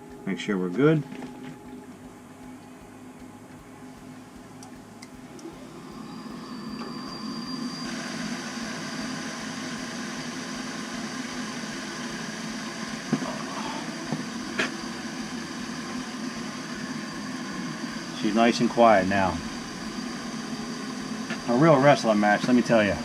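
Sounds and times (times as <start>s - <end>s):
boiler hum and rush: 0.0s - 23.0s.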